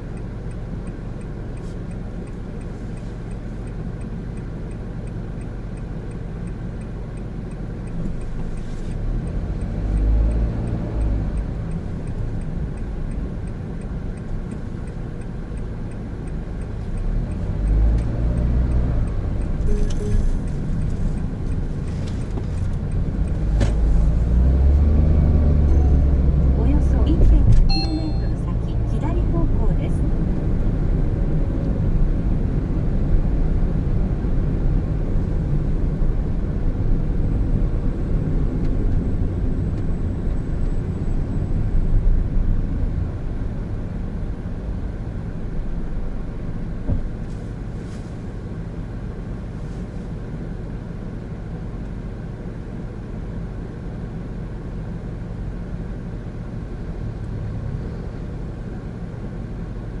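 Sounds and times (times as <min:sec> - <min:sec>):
car road and engine rumble: 0:00.0 - 1:00.0.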